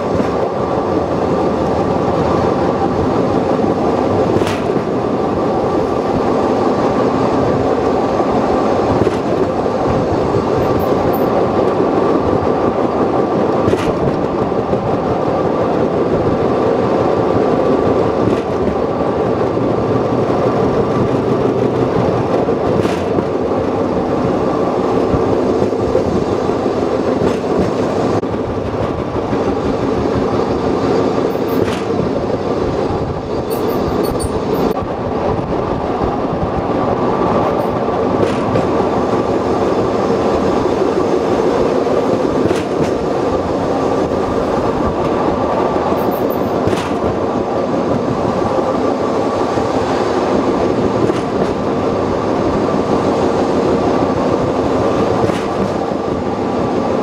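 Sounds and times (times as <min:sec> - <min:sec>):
train rumbling on rails: 0:00.0 - 0:57.0
wheels clicking over rail joints: 0:00.0 - 0:57.0.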